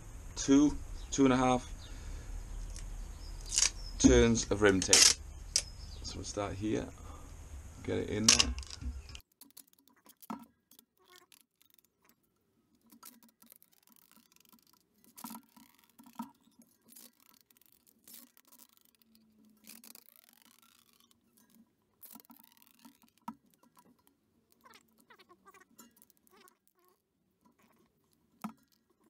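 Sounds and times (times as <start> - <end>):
tape crackling and rustling: 2.5 - 5.8, 7.4 - 29.0.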